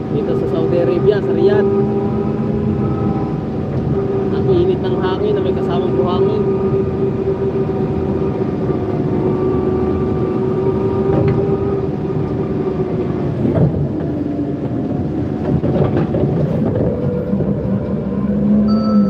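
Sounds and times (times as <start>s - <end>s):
forklift running with whine: 0.0s - 19.0s.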